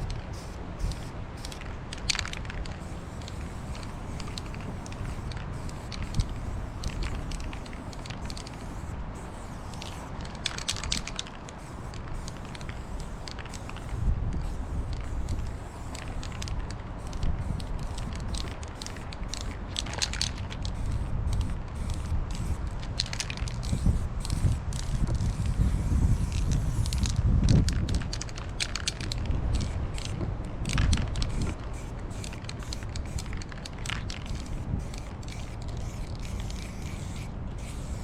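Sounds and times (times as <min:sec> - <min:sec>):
spray paint can hissing: 0:00.0 - 0:38.0.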